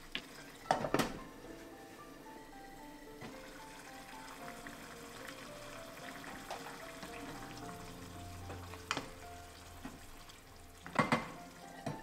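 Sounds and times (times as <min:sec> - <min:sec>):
soft background music: 0:00.0 - 0:12.0
soup simmering and sizzling: 0:00.0 - 0:12.0.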